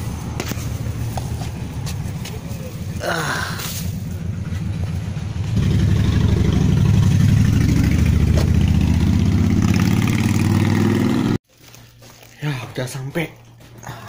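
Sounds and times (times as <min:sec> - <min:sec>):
car engine rumbling: 0:00.0 - 0:11.4.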